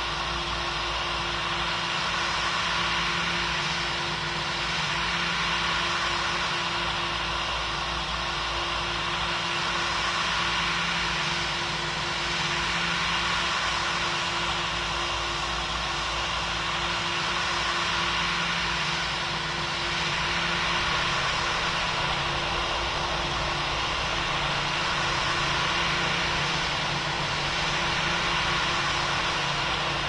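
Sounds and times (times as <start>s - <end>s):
airliner cabin engine noise: 0.0s - 30.0s.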